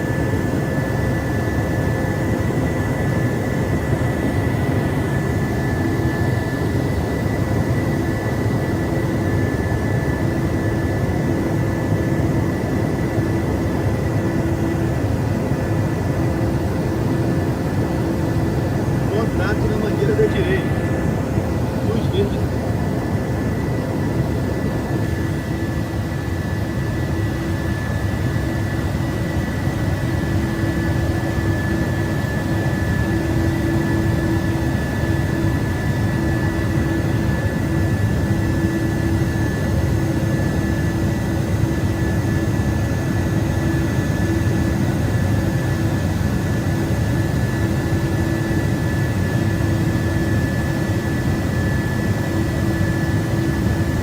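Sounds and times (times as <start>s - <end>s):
aircraft drone in flight: 0.0s - 54.0s.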